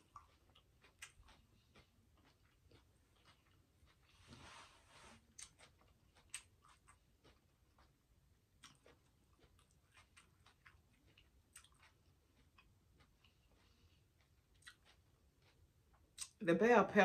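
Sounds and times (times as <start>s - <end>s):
mouth chewing clicks: 0.0s - 4.1s, 5.4s - 16.4s.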